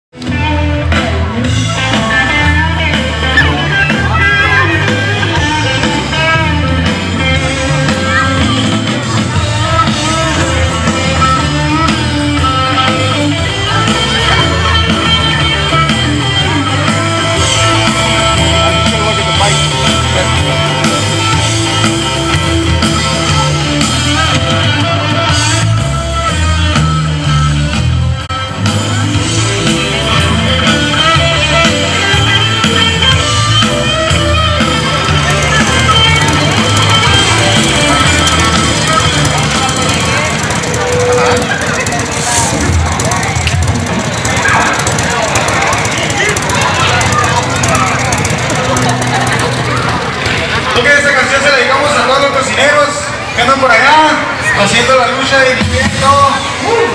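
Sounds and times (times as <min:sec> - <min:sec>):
electric guitar: 0:00.1 - 0:56.9
live rock band playing: 0:00.1 - 0:56.9
pulsing bass line: 0:00.1 - 0:56.9.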